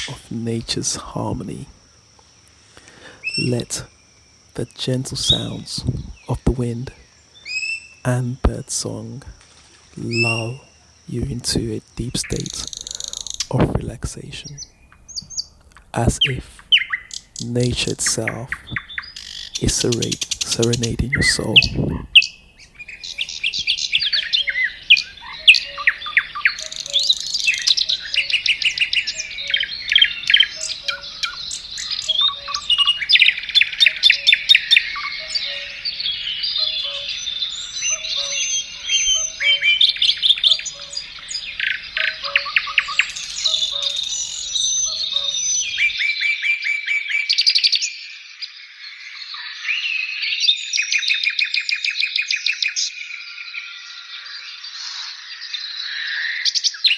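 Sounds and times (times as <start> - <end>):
faint low background noise: 0.0 - 46.2
songbirds singing: 0.0 - 56.9.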